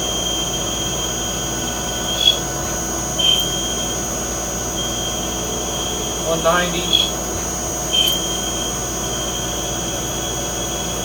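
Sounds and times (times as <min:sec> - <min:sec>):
lathe running: 0:00.0 - 0:11.0
thin high whine: 0:00.0 - 0:11.0.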